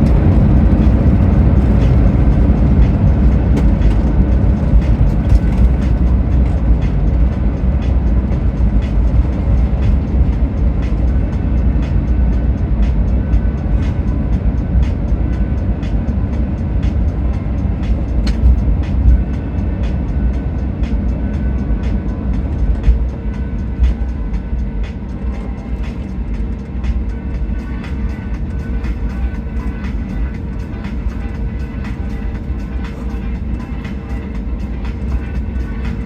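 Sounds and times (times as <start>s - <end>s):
airliner rolling on runway rumble: 0.0s - 36.0s.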